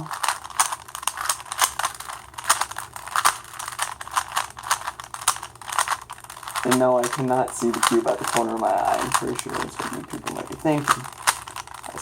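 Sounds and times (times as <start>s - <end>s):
puzzle cube plastic clicks: 0.0s - 12.0s.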